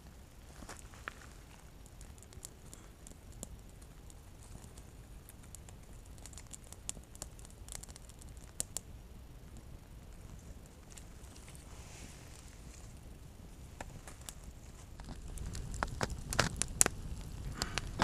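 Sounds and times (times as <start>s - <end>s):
campfire crackling: 0.0s - 18.0s
campfire pops: 0.0s - 18.0s.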